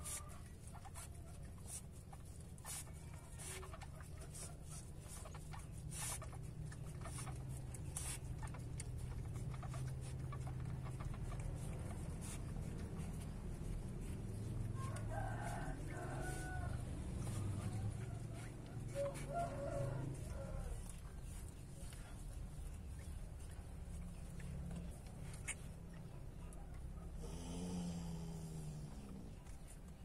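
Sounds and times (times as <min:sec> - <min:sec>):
chicken clucking: 0:00.0 - 0:27.3
low steady hum: 0:00.0 - 0:30.0.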